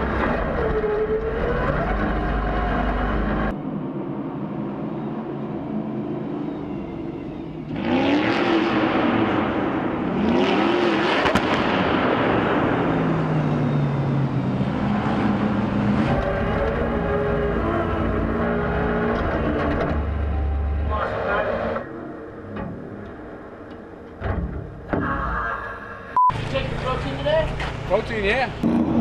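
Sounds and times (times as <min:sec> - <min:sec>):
racing truck engine revving: 0:00.0 - 0:24.1, 0:26.3 - 0:29.0.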